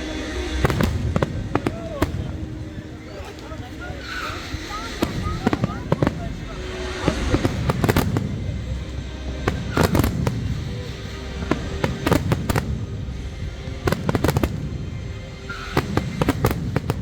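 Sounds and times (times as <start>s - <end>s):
steady low rumble: 0.0s - 17.0s
fireworks cracks and pops: 0.5s - 13.0s, 13.8s - 17.0s.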